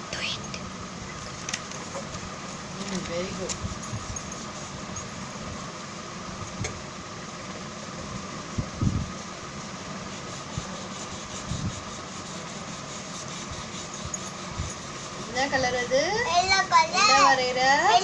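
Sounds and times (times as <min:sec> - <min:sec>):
room fan whirring: 0:00.0 - 0:18.0.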